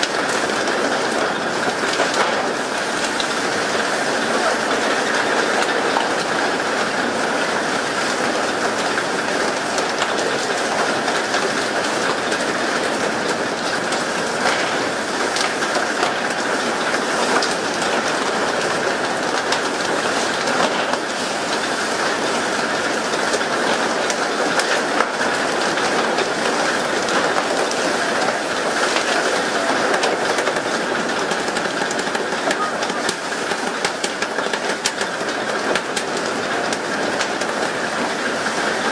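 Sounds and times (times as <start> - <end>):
water rushing along boat hull: 0.0 - 38.9.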